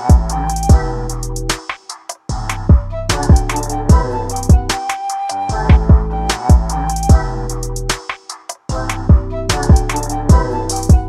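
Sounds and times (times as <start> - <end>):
electronic music with beat and bass: 0.0 - 11.0.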